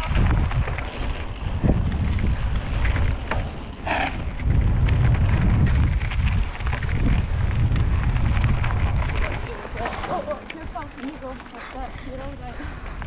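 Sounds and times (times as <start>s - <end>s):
bike rattling clicks: 0.0s - 13.0s
bike tyres rumbling on gravel: 0.0s - 13.0s
wind buffeting microphone: 0.0s - 13.0s.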